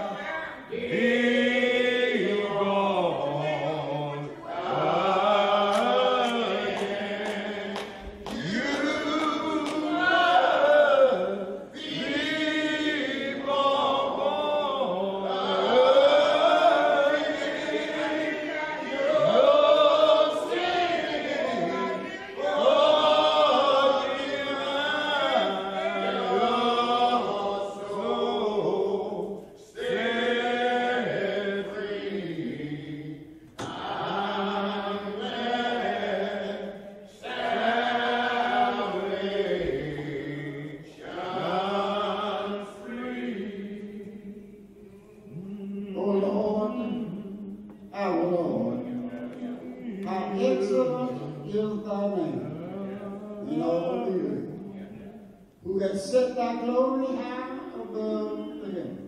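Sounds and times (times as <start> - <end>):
men singing a hymn: 0.0 - 59.0.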